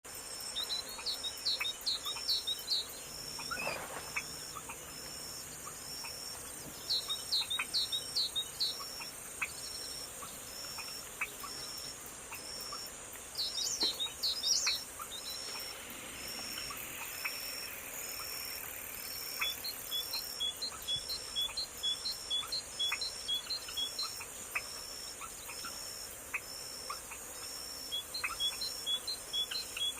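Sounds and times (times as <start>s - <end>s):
high insect chirp: 0.1s - 29.9s
small birds chirping: 0.3s - 29.9s.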